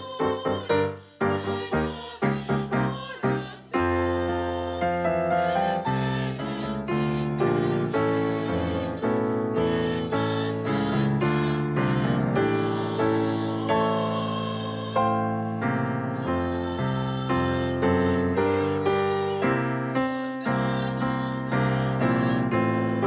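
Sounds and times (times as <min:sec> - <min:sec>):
slow ensemble music with piano: 0:00.0 - 0:23.0.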